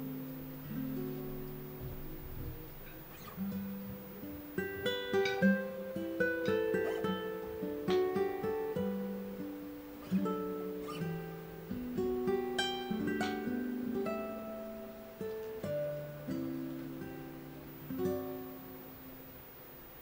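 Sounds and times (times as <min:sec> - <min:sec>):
plucked guitar notes: 0:00.0 - 0:19.2.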